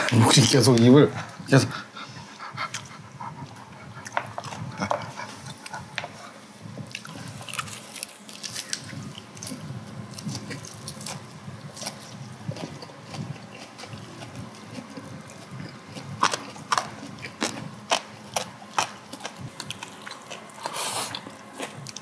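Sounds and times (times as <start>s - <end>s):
chewing and crunching food: 2.4s - 22.0s.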